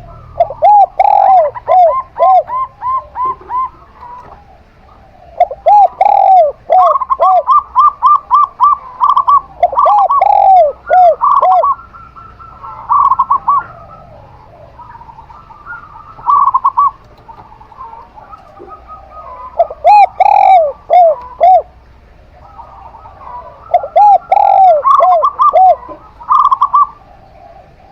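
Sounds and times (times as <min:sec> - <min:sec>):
doves cooing: 0:00.0 - 0:27.9.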